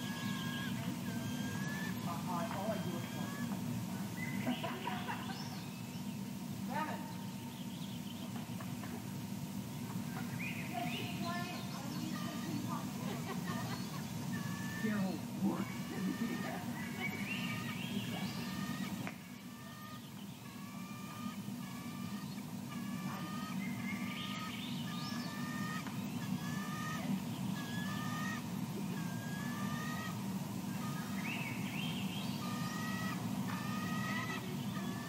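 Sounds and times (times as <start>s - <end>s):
birds calling: 0.0s - 35.0s.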